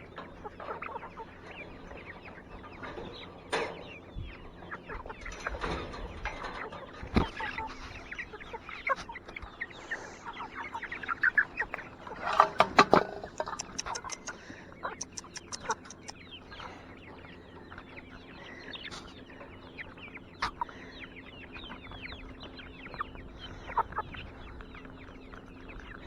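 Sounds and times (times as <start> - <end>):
chickens clucking and peeping: 0.0 - 26.0.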